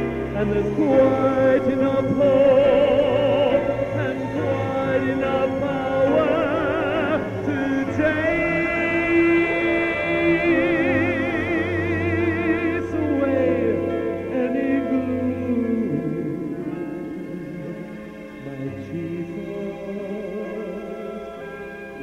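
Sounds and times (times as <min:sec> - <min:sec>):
slow music with vibrato notes: 0:00.0 - 0:22.0.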